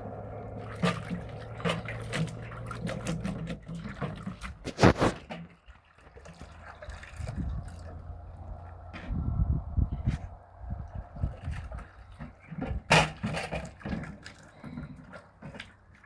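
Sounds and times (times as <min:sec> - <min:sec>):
water splashing and trickling: 0:00.0 - 0:16.0.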